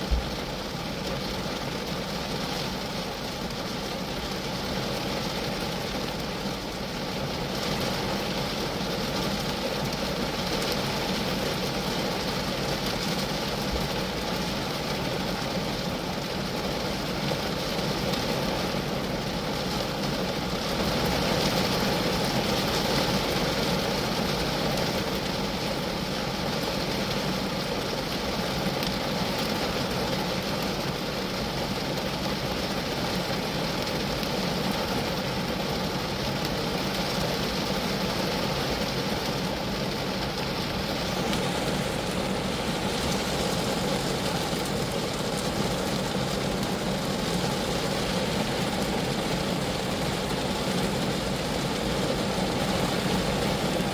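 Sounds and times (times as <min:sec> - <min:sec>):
rain falling on a car: 0:00.0 - 0:53.9.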